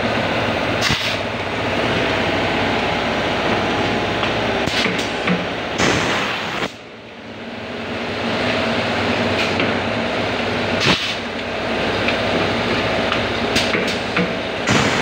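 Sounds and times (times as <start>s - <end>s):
blow moulding machine humming: 0.0s - 15.0s.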